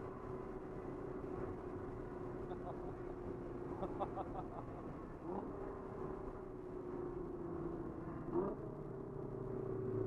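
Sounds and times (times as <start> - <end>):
car engine droning: 0.0 - 10.0
wind and road noise: 0.0 - 10.0.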